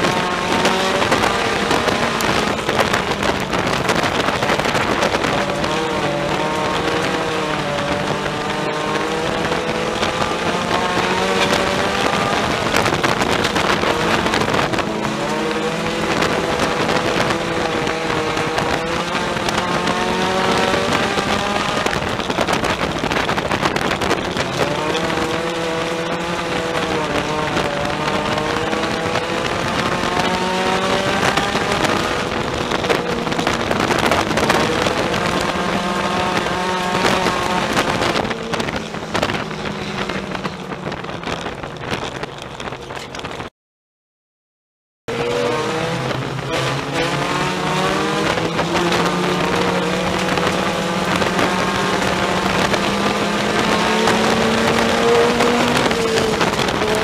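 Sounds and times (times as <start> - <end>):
race car engine from cockpit: 0.0 - 43.5, 45.1 - 57.0.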